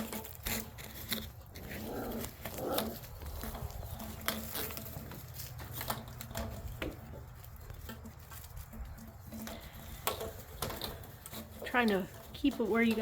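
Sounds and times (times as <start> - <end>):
light taps and scrapes: 0.0 - 13.0
puppies scuffling: 0.0 - 13.0.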